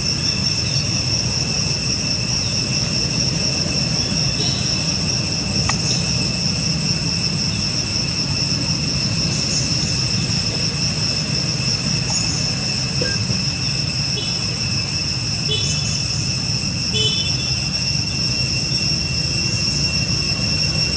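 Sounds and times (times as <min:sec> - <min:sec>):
insect chorus shrilling: 0:00.0 - 0:20.9.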